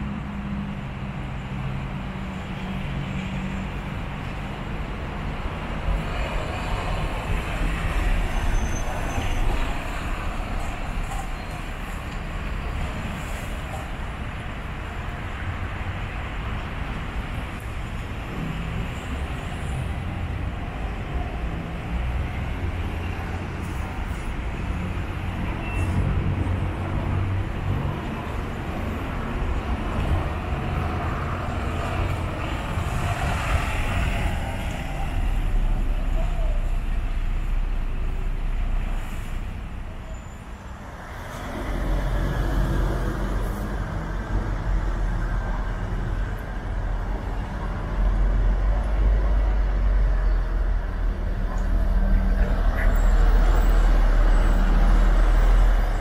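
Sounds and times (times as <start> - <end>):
bus engines rumbling: 0.0 - 56.0
traffic noise: 0.0 - 56.0.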